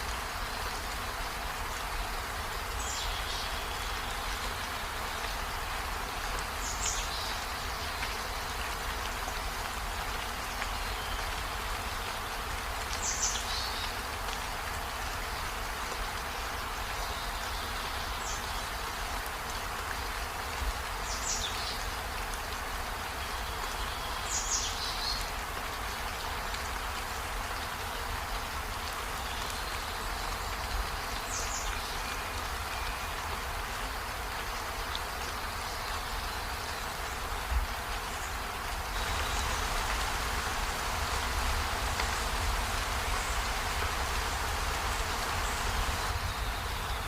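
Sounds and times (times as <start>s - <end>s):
rain falling on trees and window: 0.0s - 47.0s.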